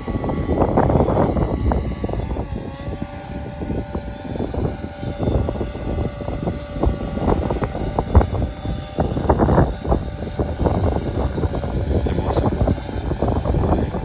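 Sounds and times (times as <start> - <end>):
propellers buzzing whine: 0.0 - 14.0
wind rumbling on microphone: 0.0 - 14.0.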